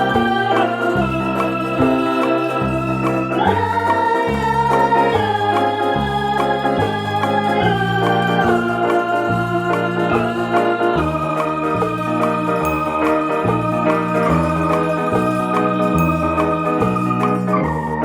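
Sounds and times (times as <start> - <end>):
electronic organ music: 0.0 - 18.0.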